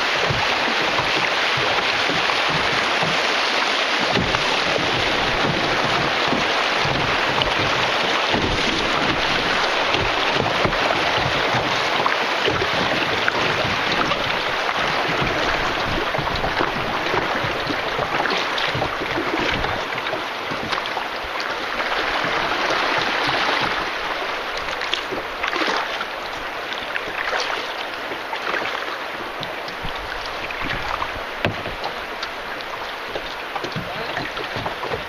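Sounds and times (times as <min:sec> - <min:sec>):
paddle knocks and splashes: 0:00.0 - 0:35.0
water rushing around boat: 0:00.0 - 0:35.0.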